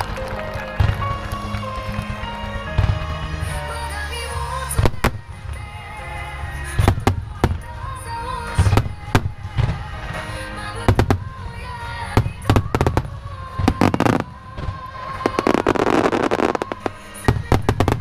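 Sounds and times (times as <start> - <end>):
firework shells bursting: 0.0 - 18.0
music over loudspeakers: 0.0 - 18.0.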